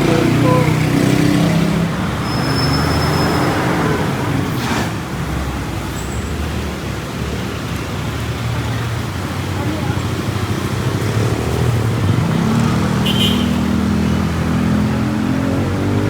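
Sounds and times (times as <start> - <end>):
road noise: 0.0 - 16.0
vehicle engines passing: 0.0 - 16.0.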